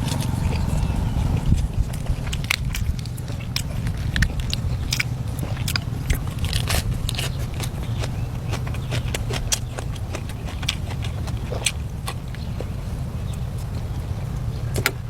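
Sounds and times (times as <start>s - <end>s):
crunchy food being chewed: 0.0s - 15.0s
steady low rumble: 0.0s - 15.0s.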